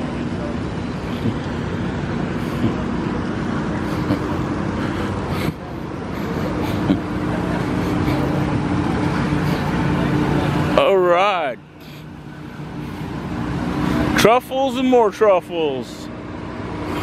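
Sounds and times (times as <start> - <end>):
road noise: 0.0 - 17.0
vehicle engines humming: 0.0 - 17.0.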